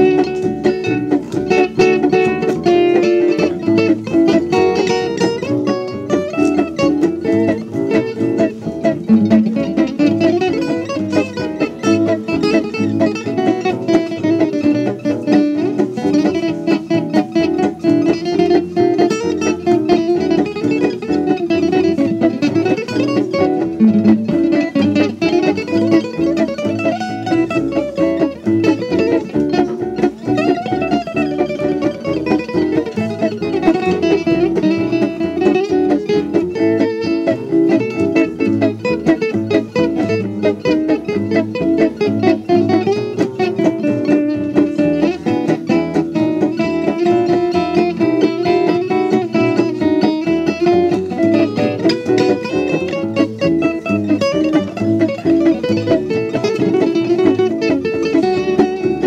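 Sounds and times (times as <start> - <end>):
plucked guitar music: 0.0 - 59.0.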